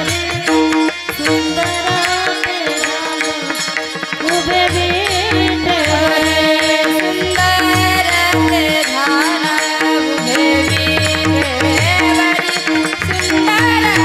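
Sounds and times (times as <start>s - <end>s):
harmonium: 0.0s - 14.0s
woman singing: 0.0s - 14.0s.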